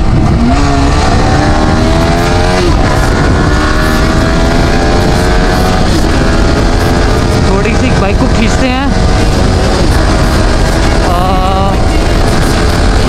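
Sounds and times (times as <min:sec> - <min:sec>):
motorcycle engine revving hard: 0:00.0 - 0:13.0
wind rush on microphone: 0:00.0 - 0:13.0.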